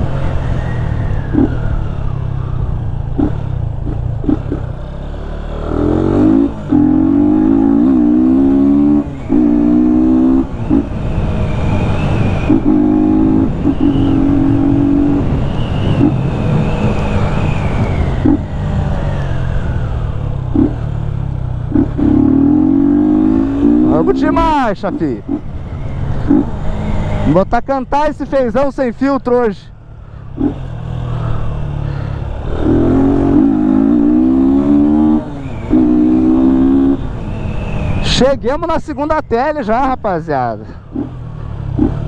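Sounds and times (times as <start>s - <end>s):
motorcycle engine accelerating: 0.0s - 40.0s, 40.6s - 42.0s.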